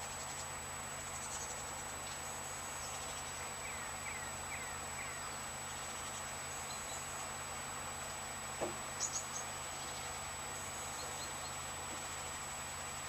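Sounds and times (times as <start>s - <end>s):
small bird chirping: 0.0s - 7.2s, 8.9s - 12.4s
steady outdoor background hiss: 0.0s - 13.0s.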